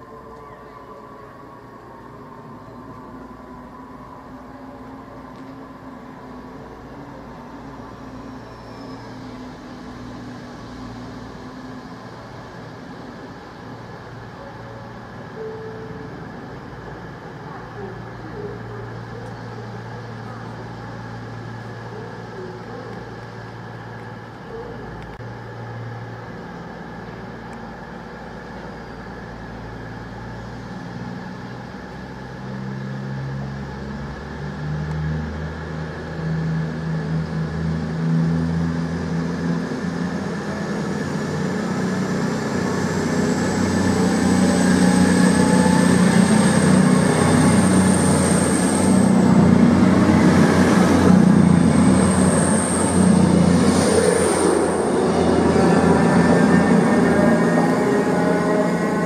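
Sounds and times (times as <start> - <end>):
high whine rising in pitch: 0.0 - 18.2, 28.3 - 59.0
train diesel engines: 0.0 - 59.0.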